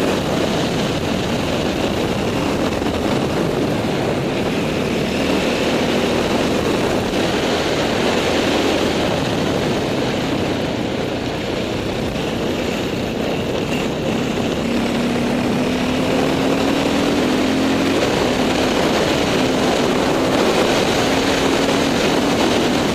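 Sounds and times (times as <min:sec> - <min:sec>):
dirt bike engine running: 0:00.0 - 0:22.9
wind noise on microphone: 0:00.0 - 0:22.9.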